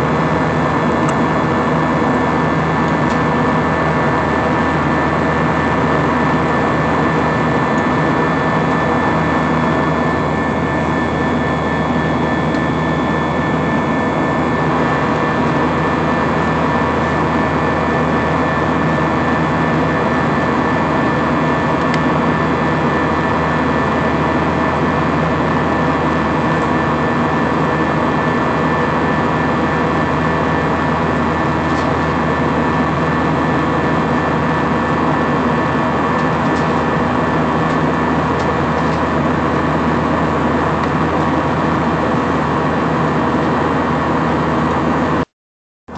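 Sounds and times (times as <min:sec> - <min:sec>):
steady humming tones: 0:00.0 - 0:45.2
jet engine and airflow noise in cabin: 0:00.0 - 0:45.3.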